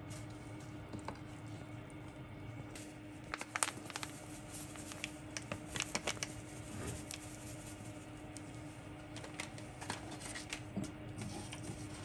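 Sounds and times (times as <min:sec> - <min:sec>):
soft squishing of fish: 0:00.0 - 0:10.5
faint steady hum: 0:00.0 - 0:12.0.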